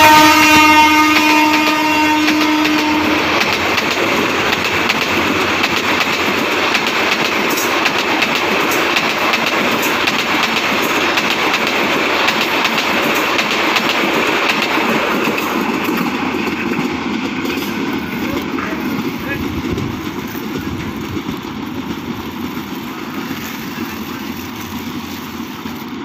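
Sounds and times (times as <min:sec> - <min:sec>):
train rumbling past: 0:00.0 - 0:26.0
wheels clacking over rail joints: 0:01.0 - 0:26.0.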